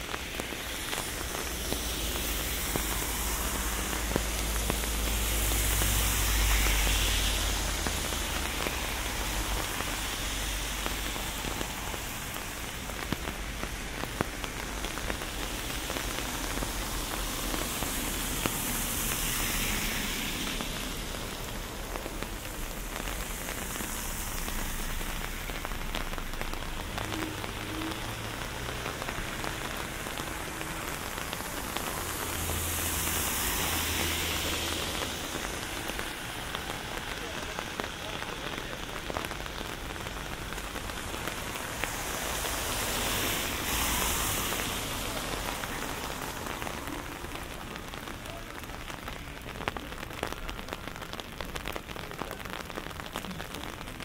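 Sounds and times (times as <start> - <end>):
rain falling: 0.0 - 54.0
raindrops ticking: 0.0 - 54.0.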